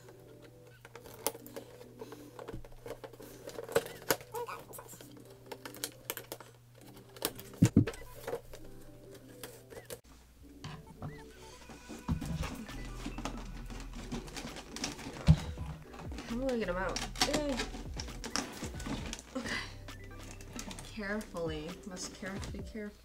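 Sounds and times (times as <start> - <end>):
packaging crinkling and scraping: 0.0 - 10.0, 11.3 - 23.0.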